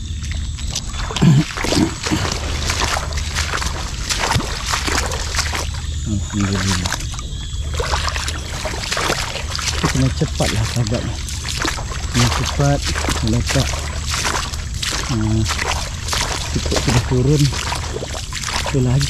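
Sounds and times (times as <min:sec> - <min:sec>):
steady low rumble: 0:00.0 - 0:19.0
water splashing and sloshing: 0:00.0 - 0:19.0.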